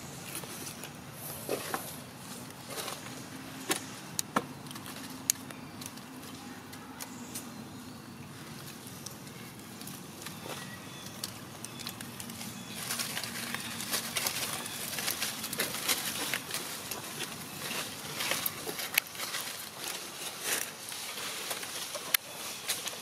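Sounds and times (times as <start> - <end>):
dry leaves rustling and crackling: 0.1 - 7.8, 8.4 - 23.0.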